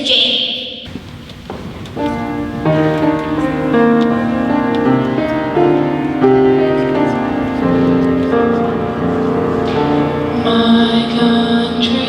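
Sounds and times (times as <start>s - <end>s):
piano chords: 0.9s - 12.0s.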